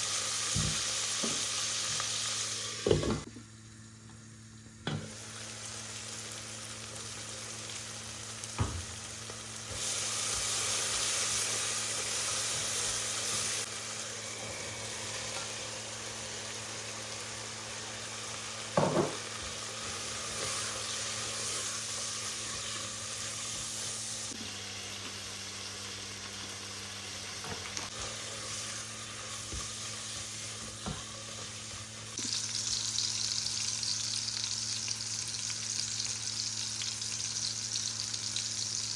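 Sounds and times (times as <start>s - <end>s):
food sizzling in frying pan: 0.0s - 3.3s, 4.9s - 38.9s.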